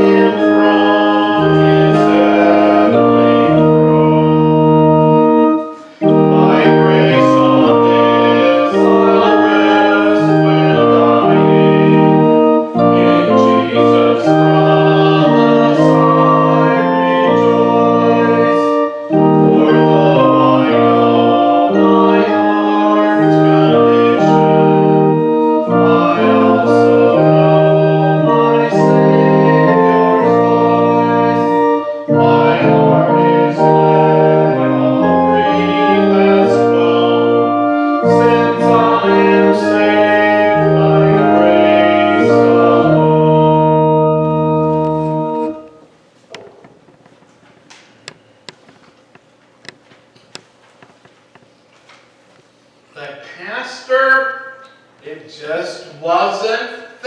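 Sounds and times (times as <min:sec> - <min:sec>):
church organ playing a hymn: 0:00.0 - 0:46.9.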